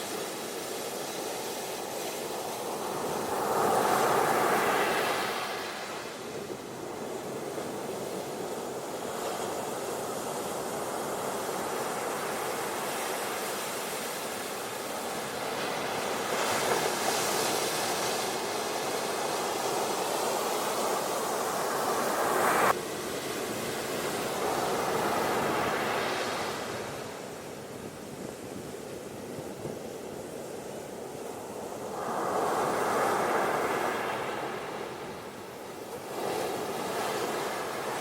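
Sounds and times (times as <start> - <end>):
ocean surf washing onto beach: 0.0 - 38.0.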